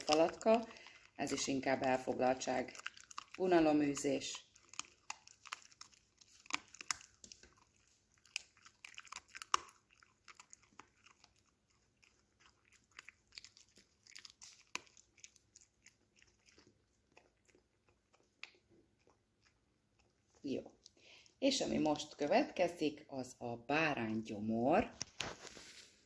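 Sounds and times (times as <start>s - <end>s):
dog chewing: 0.0s - 22.6s.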